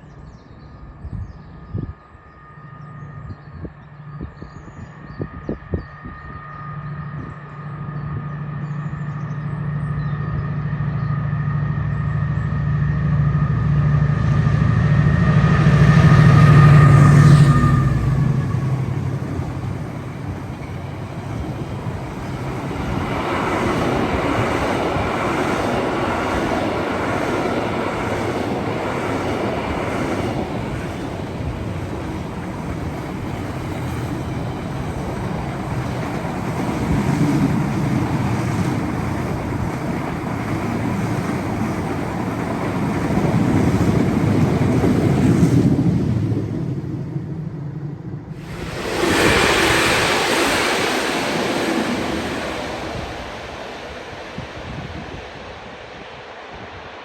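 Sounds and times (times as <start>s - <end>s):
train wheels rumbling on rails: 4.3s - 56.8s.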